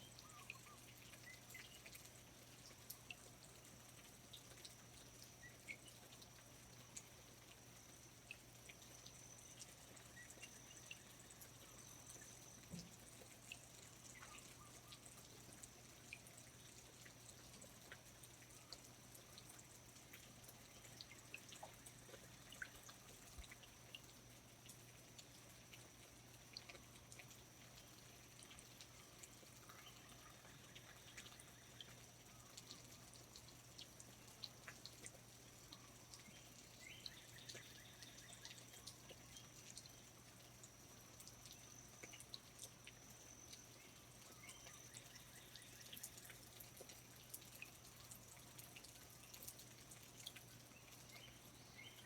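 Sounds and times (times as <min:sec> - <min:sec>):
water dripping: 0:00.0 - 0:52.0.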